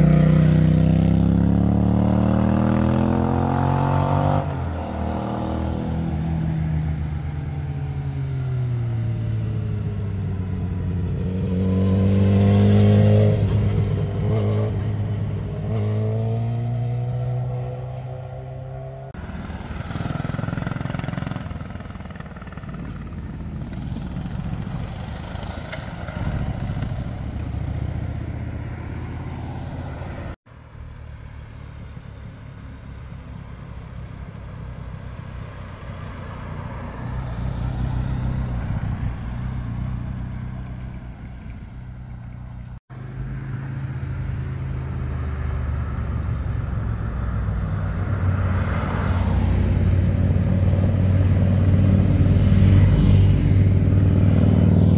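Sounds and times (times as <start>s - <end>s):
motorcycles driving past: 0.0s - 30.4s, 31.2s - 54.9s
cars driving past: 0.0s - 54.9s.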